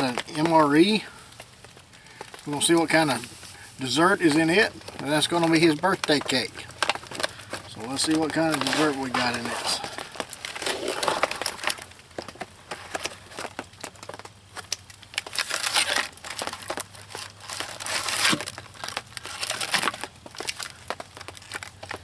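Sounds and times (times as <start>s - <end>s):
plastic pouch crinkling: 0.0s - 22.0s.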